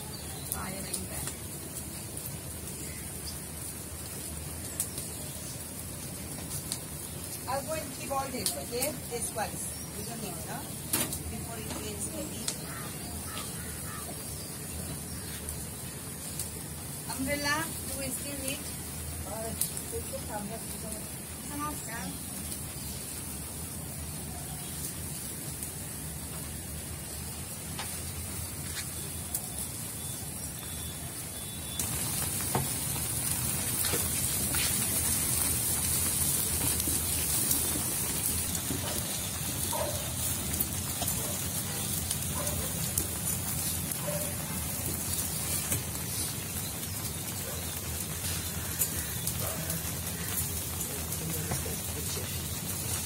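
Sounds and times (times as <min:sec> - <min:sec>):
rain hissing: 0:00.0 - 0:53.0
wood fire crackling: 0:00.0 - 0:53.0
fire pops: 0:00.1 - 0:30.7, 0:31.4 - 0:53.0.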